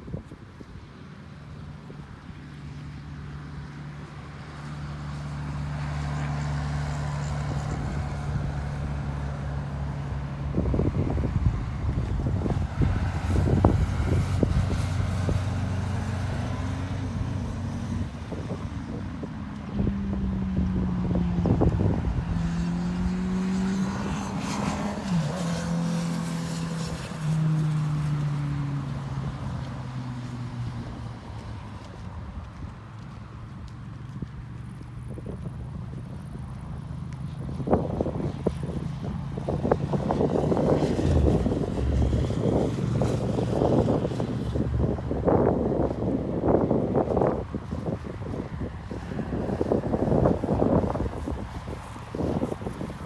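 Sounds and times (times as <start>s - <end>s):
wind buffeting microphone: 0.0s - 3.2s, 4.0s - 53.0s
engine running: 1.1s - 53.0s.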